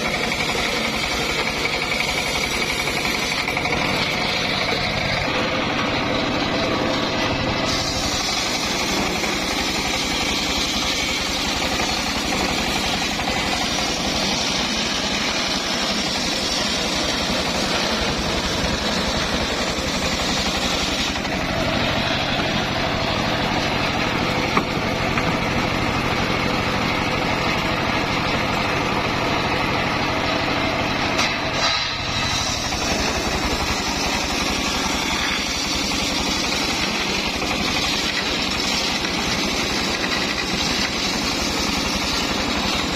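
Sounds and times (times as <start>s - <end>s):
circular sawmill cutting timber: 0.0s - 42.9s.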